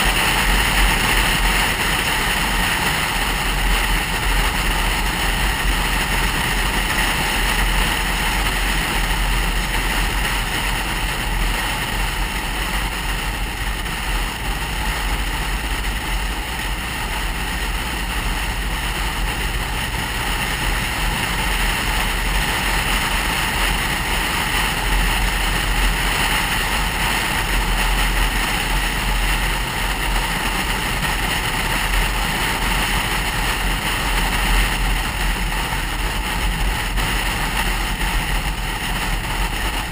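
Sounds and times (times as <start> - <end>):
car engine hum: 0.0 - 39.9
deep rumble: 0.0 - 39.9.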